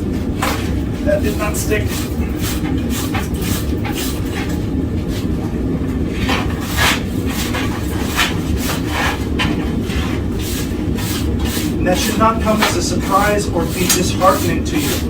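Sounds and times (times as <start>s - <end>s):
forge burner rumbling: 0.0s - 15.0s
metal scraping strokes: 0.4s - 5.4s, 6.1s - 15.0s.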